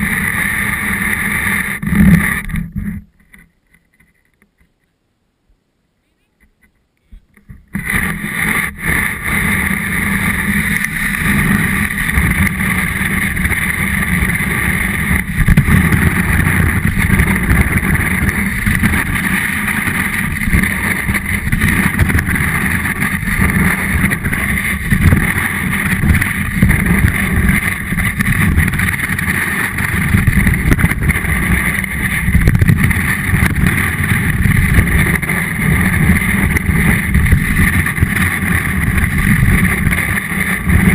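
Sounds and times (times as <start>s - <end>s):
snowboard scraping over snow: 0.0s - 3.1s, 7.5s - 40.9s
wind rumbling on microphone: 0.0s - 4.4s, 6.4s - 40.9s.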